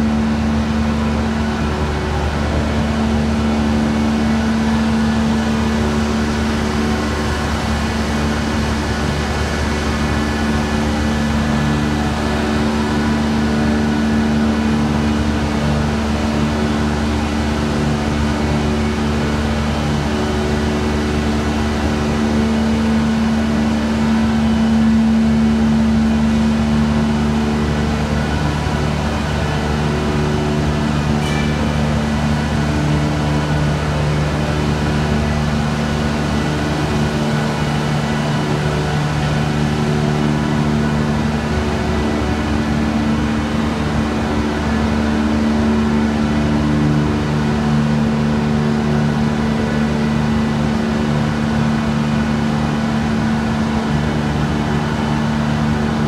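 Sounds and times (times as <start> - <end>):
mill machinery drone: 0.0 - 56.0.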